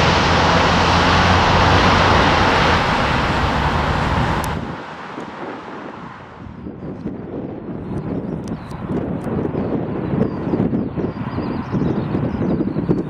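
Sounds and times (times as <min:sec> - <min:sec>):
jet engines passing low: 0:00.0 - 0:13.0
wind noise: 0:00.0 - 0:13.0.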